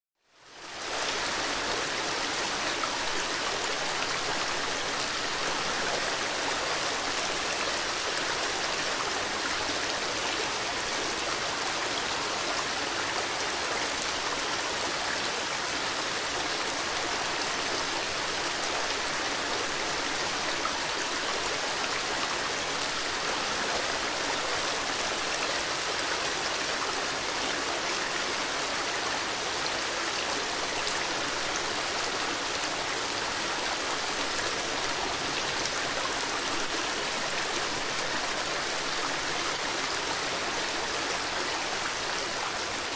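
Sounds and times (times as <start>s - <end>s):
river water rushing: 0.4s - 42.9s.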